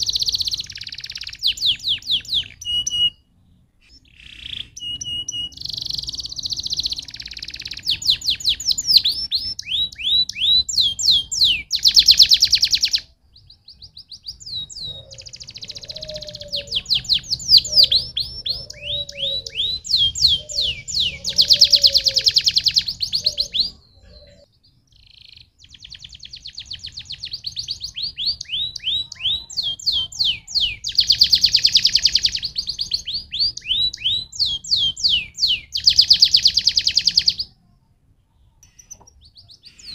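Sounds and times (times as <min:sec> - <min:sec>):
canary singing: 0:00.0 - 0:37.6, 0:38.4 - 0:39.9.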